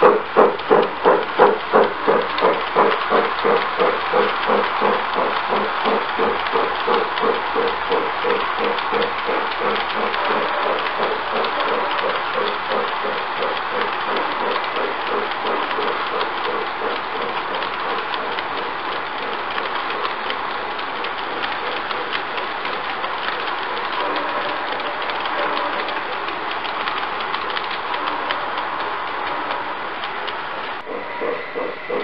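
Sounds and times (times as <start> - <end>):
model train wheels rumbling: 0.0 - 32.0
wheels clacking over rail joints: 0.0 - 32.0.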